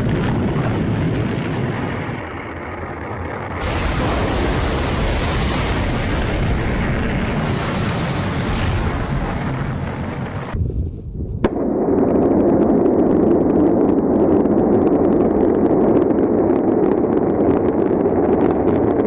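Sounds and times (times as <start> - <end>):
rocket roaring: 0.0 - 19.0.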